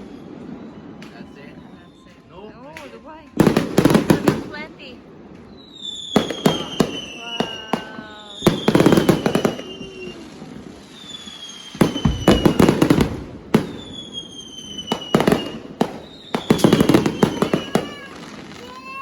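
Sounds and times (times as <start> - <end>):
fireworks crackling bangs: 0.0 - 19.0
fireworks whistling: 0.0 - 19.0.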